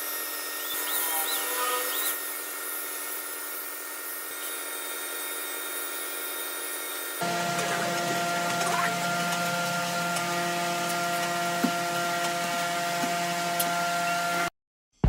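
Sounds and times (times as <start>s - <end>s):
woodworking machine humming: 0.0s - 14.5s.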